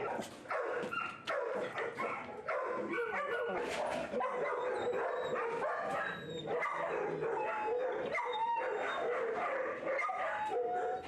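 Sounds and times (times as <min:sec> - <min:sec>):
dogs barking and whining: 0:00.0 - 0:11.0.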